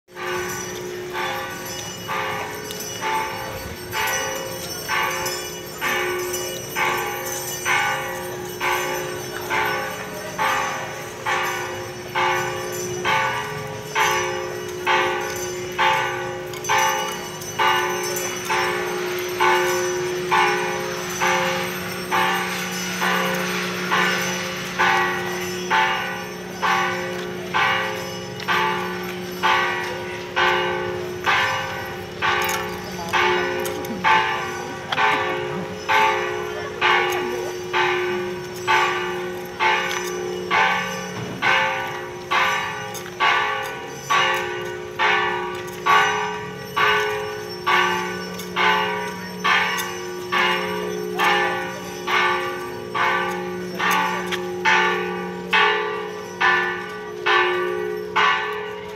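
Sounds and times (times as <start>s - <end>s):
church bells ringing: 0.1s - 58.9s.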